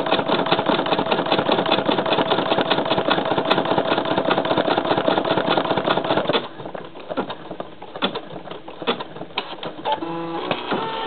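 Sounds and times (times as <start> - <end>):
embroidery machine needle clatter: 0.0 - 11.0.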